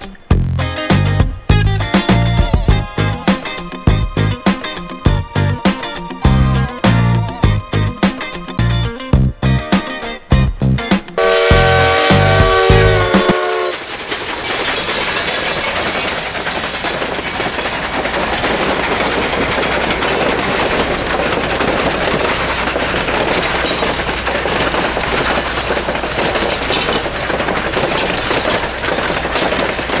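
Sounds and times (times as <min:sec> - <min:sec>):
train wheels rumbling and rattling: 0:00.0 - 0:30.0
wheels clicking over rail joints: 0:00.0 - 0:30.0.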